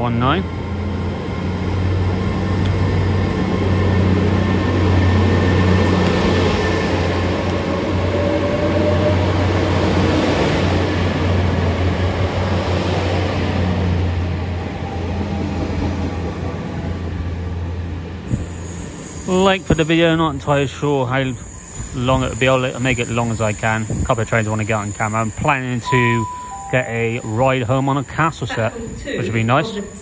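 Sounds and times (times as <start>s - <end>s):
train diesel engine hum: 0.0s - 30.0s
train carriages rolling past: 0.1s - 30.0s.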